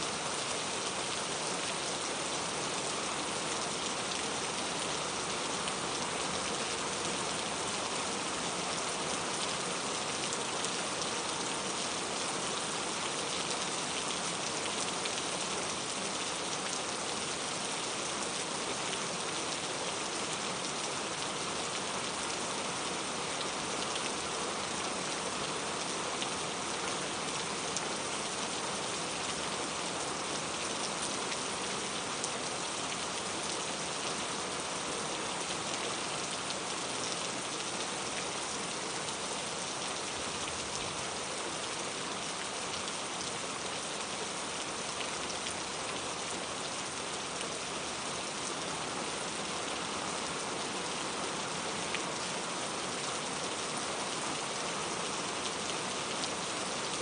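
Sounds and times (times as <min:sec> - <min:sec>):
rain pattering on surfaces: 0:00.1 - 0:57.0.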